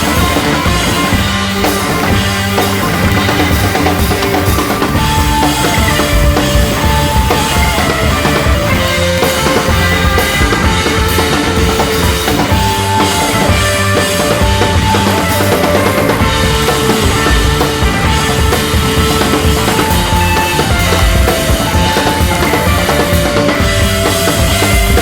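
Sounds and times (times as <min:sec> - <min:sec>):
driving drum kit: 0:00.0 - 0:25.0
rock music: 0:00.0 - 0:25.0.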